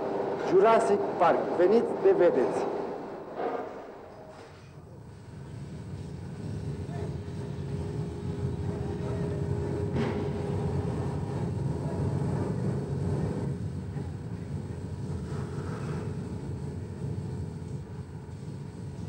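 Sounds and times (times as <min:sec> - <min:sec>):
factory machinery rumble: 0:00.0 - 0:19.0.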